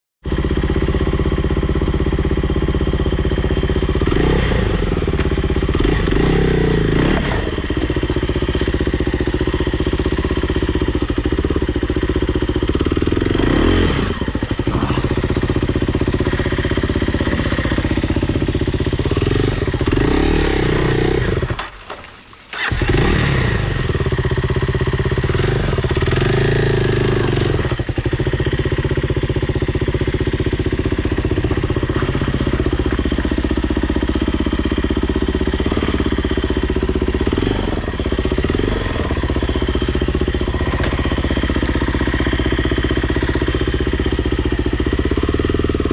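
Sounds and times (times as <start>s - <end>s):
dirt bike engine revving: 0.4s - 45.9s.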